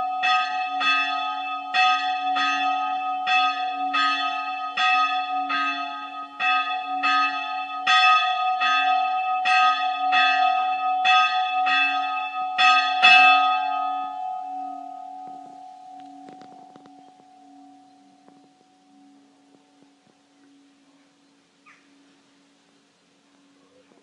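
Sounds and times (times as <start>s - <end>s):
church bell tolling: 0.0s - 21.2s.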